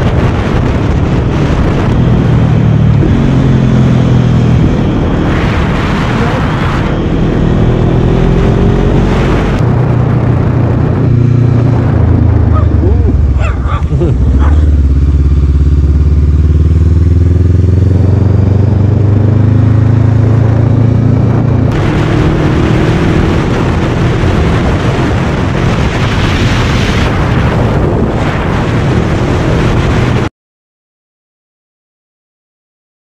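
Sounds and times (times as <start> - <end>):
motorcycle engine: 0.0 - 30.3
wind rush on microphone: 0.0 - 30.3.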